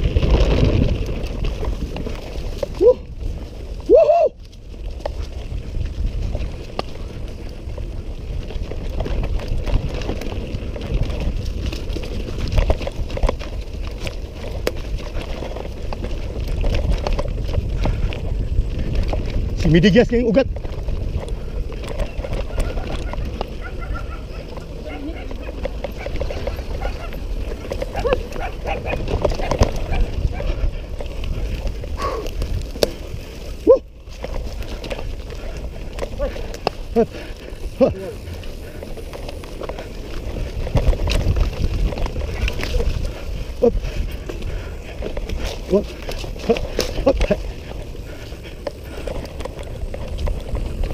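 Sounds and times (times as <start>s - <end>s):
bike clicks and rattles: 0.0s - 50.9s
wind and tyre rumble: 0.0s - 50.9s.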